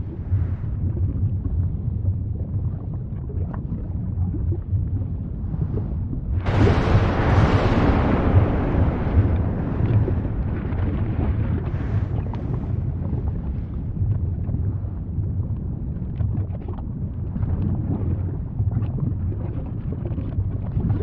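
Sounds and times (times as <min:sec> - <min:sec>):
faint crackles: 0:00.0 - 0:21.0
volcano rumbling: 0:00.0 - 0:21.0.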